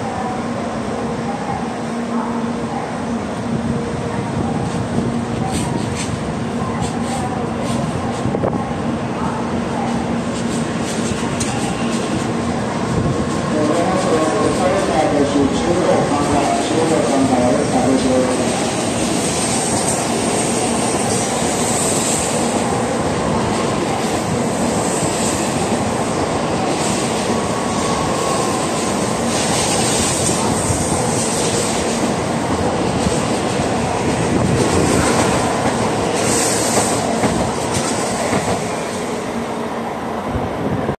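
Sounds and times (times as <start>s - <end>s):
train rushing past: 2.0s - 40.9s.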